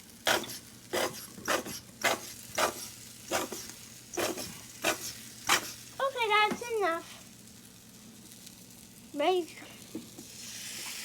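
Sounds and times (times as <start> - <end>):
batter sizzling on a griddle: 0.0 - 11.0
sharp sizzle spurts: 0.0 - 11.0.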